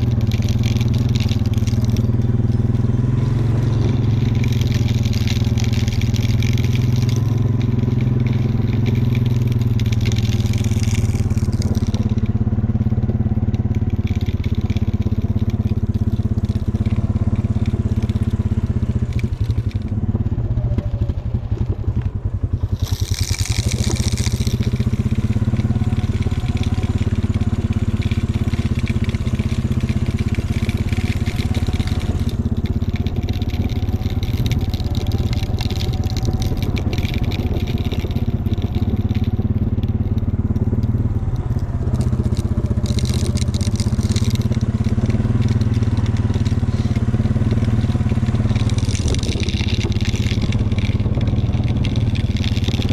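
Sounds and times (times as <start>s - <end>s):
tyres crunching over snow: 0.0s - 52.9s
vehicle engine running: 0.0s - 52.9s.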